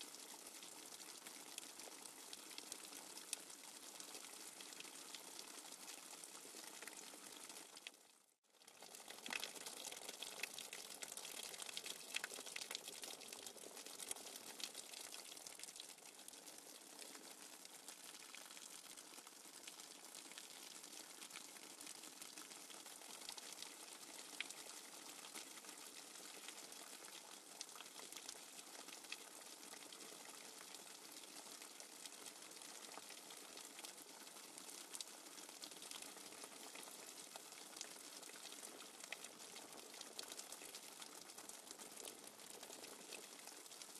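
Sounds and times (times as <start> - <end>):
faint bubbling water: 0.0 - 43.9.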